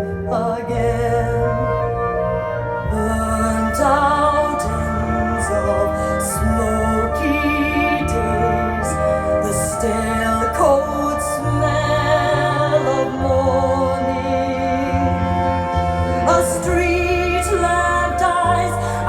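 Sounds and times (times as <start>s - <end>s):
woman singing operatically: 0.0s - 19.0s.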